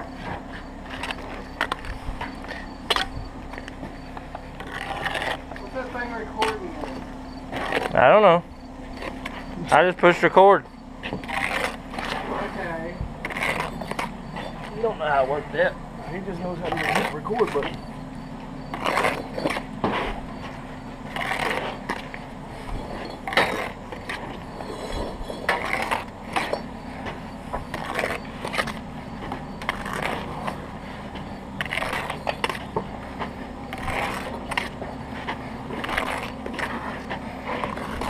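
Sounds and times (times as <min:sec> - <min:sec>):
steady low hum: 0:00.0 - 0:38.0
trowel scraping brick and mortar: 0:00.1 - 0:08.1, 0:11.0 - 0:17.9, 0:18.6 - 0:38.0.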